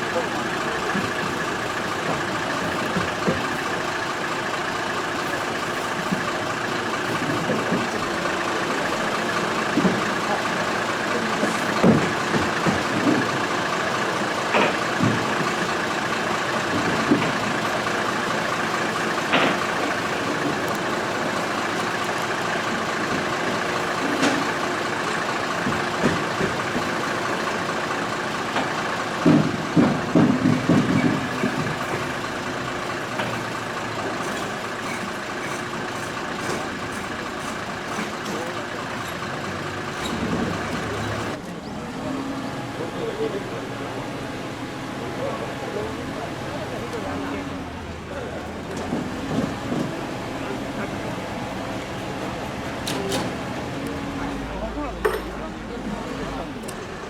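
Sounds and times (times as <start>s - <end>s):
truck engine idling: 0.0s - 57.0s
knocks and clunks: 0.1s - 4.1s, 5.2s - 41.5s, 46.9s - 57.0s.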